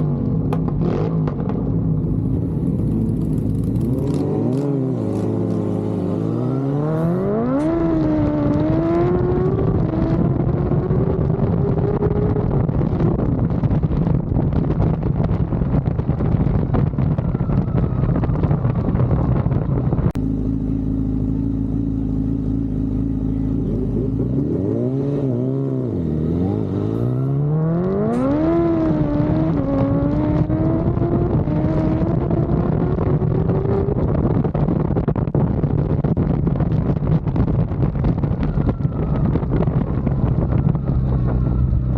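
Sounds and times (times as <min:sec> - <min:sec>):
motorcycle engine accelerating: 0:00.0 - 0:41.9
wind buffeting microphone: 0:00.0 - 0:41.9.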